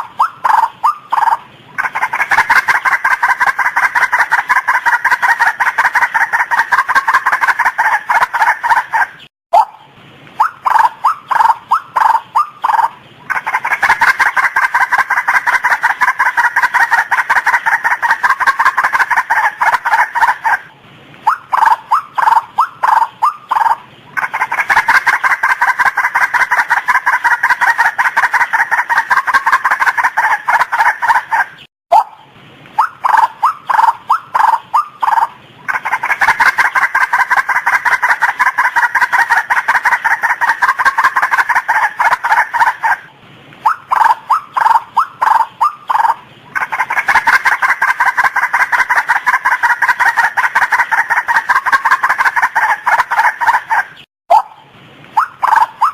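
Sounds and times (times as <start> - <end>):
bird calling rapid repeated notes: 0.0 - 55.9.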